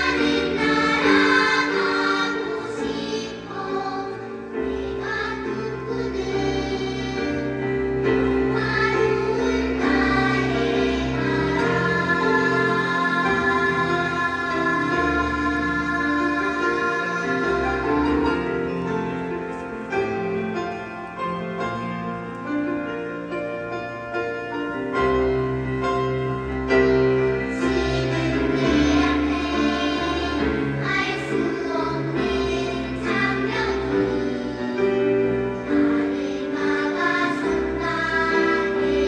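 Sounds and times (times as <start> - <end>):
children's choir singing: 0.0 - 23.3, 24.5 - 39.0.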